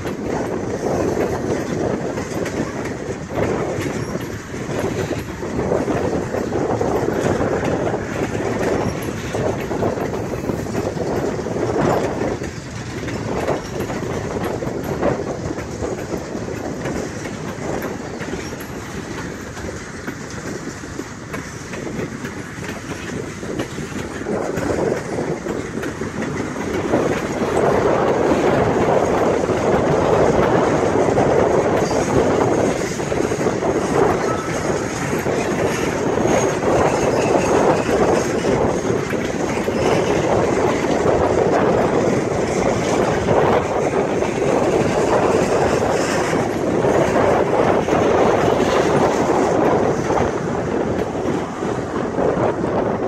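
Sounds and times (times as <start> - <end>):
freight train cars rolling: 0.0 - 53.0
wheels clicking over rail joints: 0.0 - 53.0.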